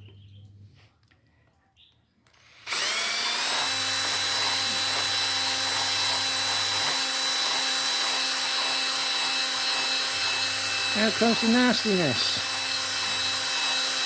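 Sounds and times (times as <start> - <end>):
power tool motor whining: 2.4 - 14.0.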